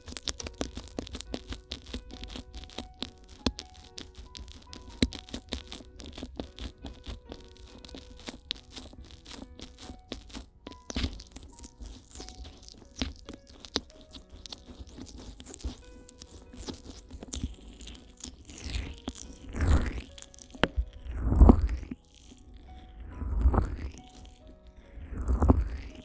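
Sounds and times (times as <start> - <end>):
soft background music: 0.0 - 26.0
sticky crackles and squelches: 0.0 - 26.0.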